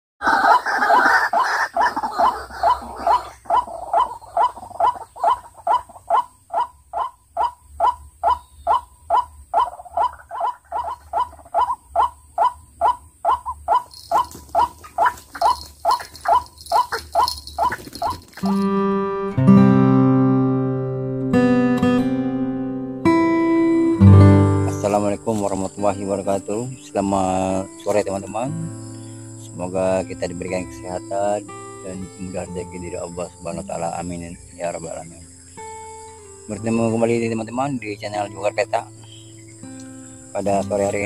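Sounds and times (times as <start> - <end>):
waterhens calling: 0.2 - 18.7, 24.7 - 41.0.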